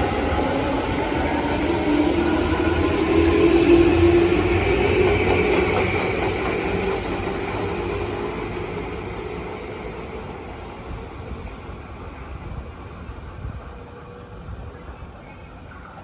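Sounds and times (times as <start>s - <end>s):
train wheel and running noise: 0.0s - 16.0s.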